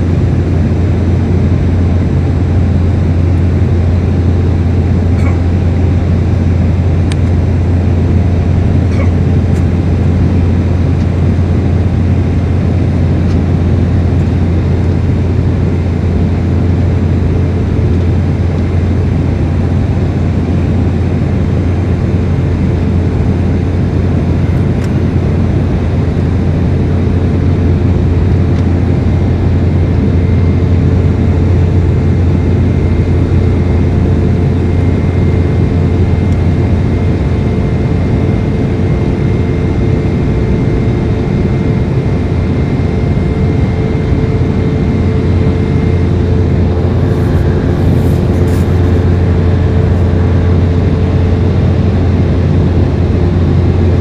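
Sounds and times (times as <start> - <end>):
airliner cabin engine rumble: 0.0 - 54.0
faint steady whine: 0.0 - 54.0.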